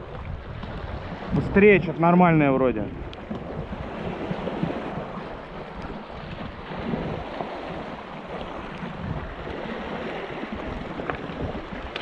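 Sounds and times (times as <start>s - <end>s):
waves splashing on stony shore: 0.0s - 12.0s
wind buffeting microphone: 0.0s - 12.0s.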